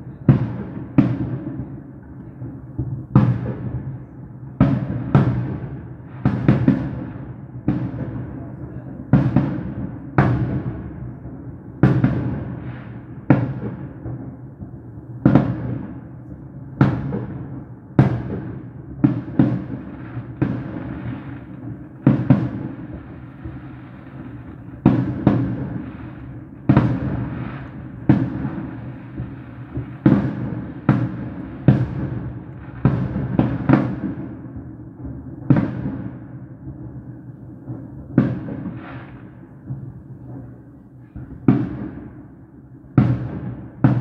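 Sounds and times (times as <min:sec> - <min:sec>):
fireworks booming: 0:00.0 - 0:44.0.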